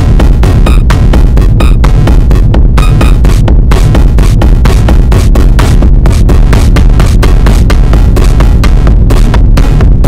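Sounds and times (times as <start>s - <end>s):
techno beat: 0.0s - 10.0s.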